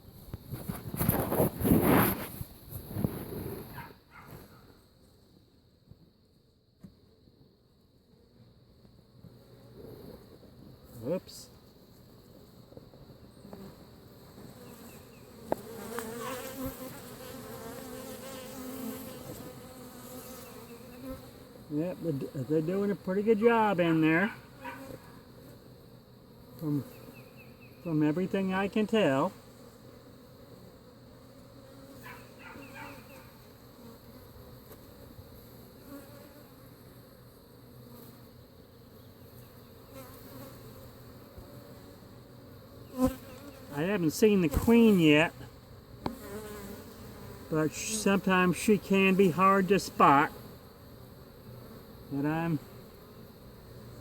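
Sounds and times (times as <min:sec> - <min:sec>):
honeybees buzzing: 0:08.4 - 0:54.0.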